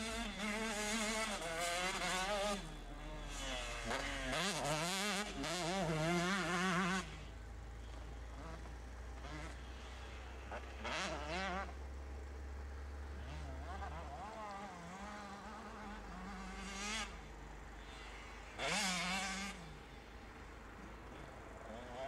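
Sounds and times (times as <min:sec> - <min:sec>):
distant motorcycles revving: 0:00.0 - 0:22.0.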